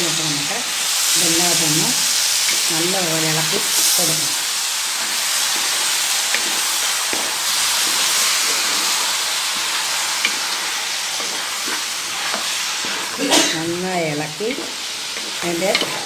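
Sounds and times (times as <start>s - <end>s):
chicken and onions sizzling in oil: 0.0s - 16.0s.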